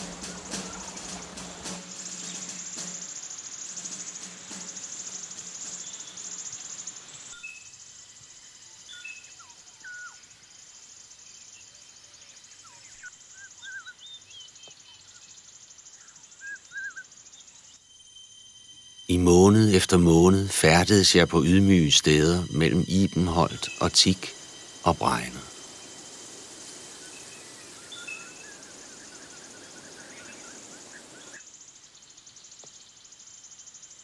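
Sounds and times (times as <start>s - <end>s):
insect chorus: 0.0s - 34.0s.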